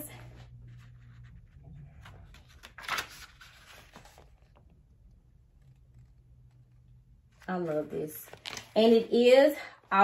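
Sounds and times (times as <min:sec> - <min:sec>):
paper pages rustling: 0:00.2 - 0:04.7, 0:05.6 - 0:09.2.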